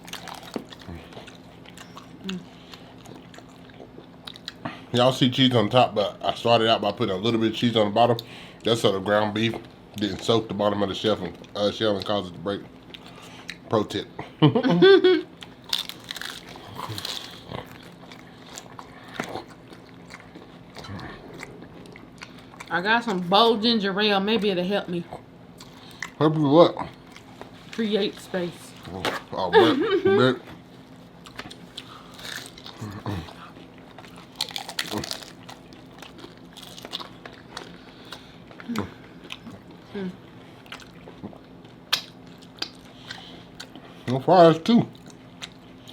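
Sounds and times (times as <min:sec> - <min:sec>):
crunchy taco shells being chewed: 0:00.0 - 0:14.0, 0:15.3 - 0:23.6, 0:25.5 - 0:29.4, 0:30.8 - 0:45.9.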